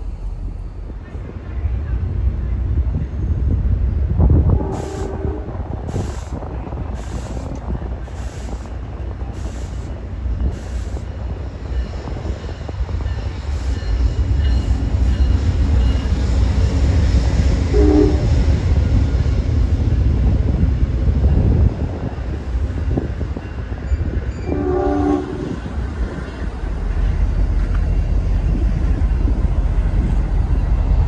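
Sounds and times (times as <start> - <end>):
train rail rumble: 0.0 - 31.0.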